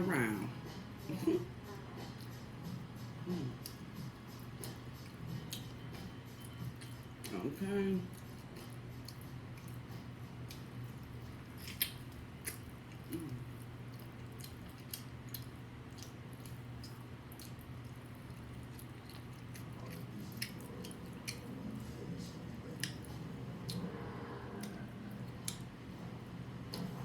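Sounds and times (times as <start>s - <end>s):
steady low hum: 0.0s - 27.0s
person chewing food: 0.2s - 27.0s.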